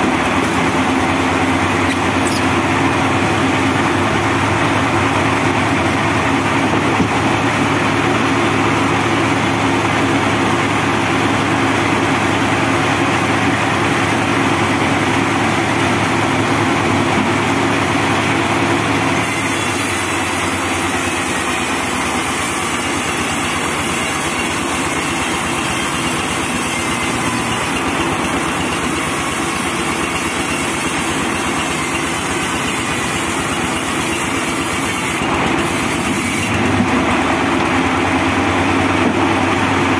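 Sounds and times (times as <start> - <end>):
band sawmill running: 0.0 - 39.9
diesel engine: 0.0 - 39.9.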